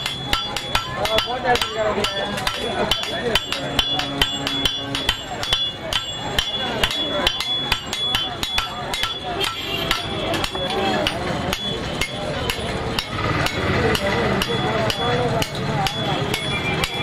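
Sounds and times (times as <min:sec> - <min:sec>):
hammer striking iron on anvil: 0:00.0 - 0:17.0.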